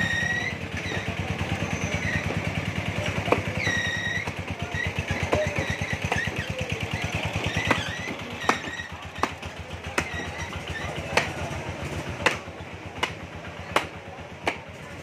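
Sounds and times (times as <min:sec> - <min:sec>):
cleaver chopping on wooden block: 0:02.1 - 0:14.8.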